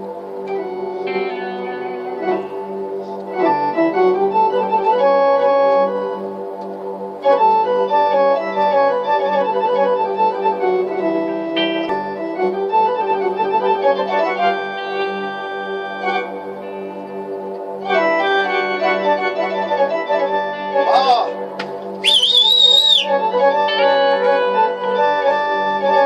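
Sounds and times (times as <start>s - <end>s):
organ-like keyboard melody: 0.0s - 26.0s.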